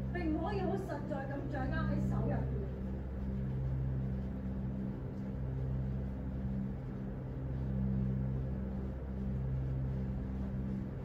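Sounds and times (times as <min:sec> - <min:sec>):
low humming drone: 0:00.0 - 0:11.0.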